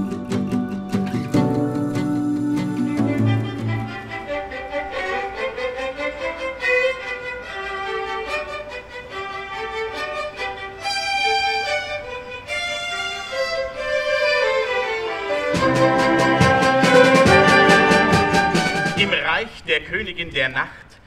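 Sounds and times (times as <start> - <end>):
orchestra playing classical music: 1.4 - 19.2
violins playing melody: 1.4 - 19.3.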